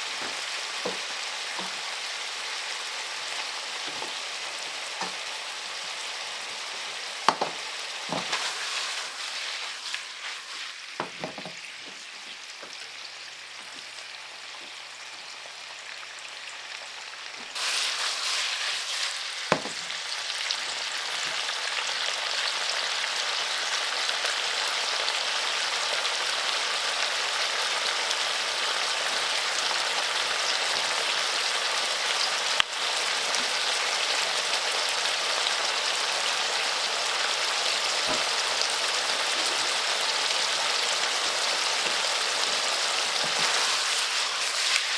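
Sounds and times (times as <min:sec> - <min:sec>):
food sizzling in a pan: 0:00.0 - 0:44.9.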